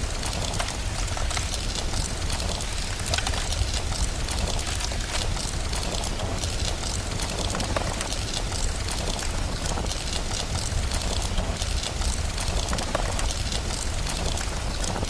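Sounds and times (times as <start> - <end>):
fireplace crackling: 0.0 - 15.0
steady rain: 0.0 - 15.0.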